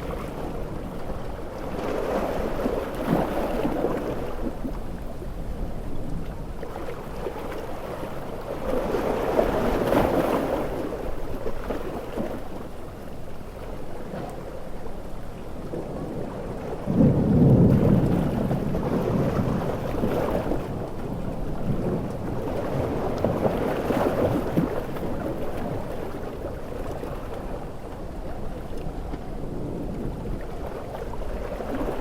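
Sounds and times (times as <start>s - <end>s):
ocean waves breaking: 0.0s - 32.0s
steady wash of surf: 0.0s - 32.0s.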